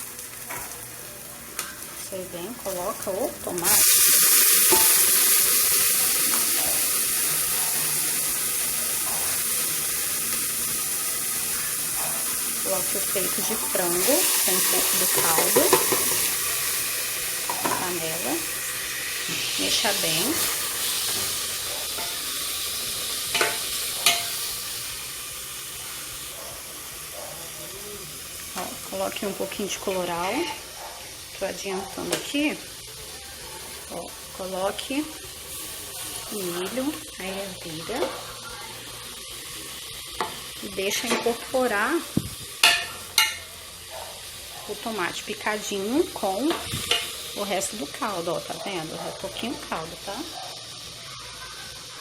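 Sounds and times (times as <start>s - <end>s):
food sizzling in hot oil: 0.0s - 52.0s.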